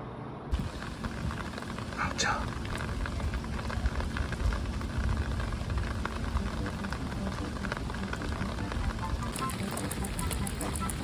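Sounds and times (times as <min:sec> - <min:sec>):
low rumble: 0:00.5 - 0:09.4
rain falling: 0:00.5 - 0:11.0.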